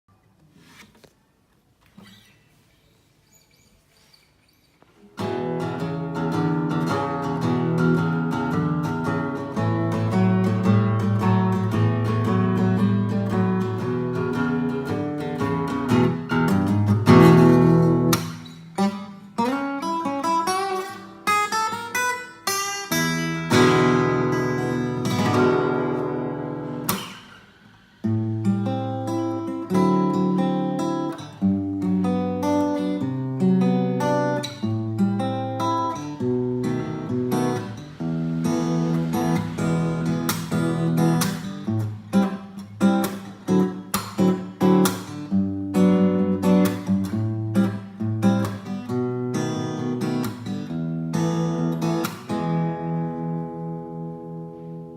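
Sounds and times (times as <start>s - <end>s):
acoustic guitar chords strummed: 5.2s - 54.9s.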